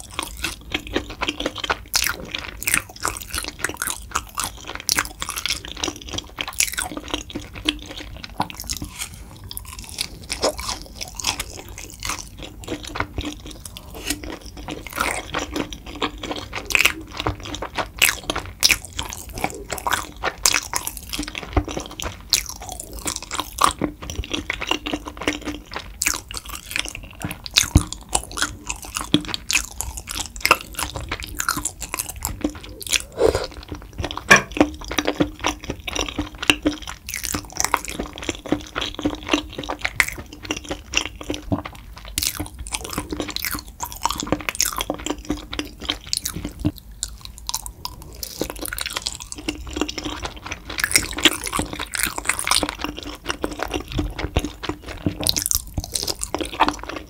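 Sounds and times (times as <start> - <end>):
wet mouth chewing sounds: 0.0 - 57.0.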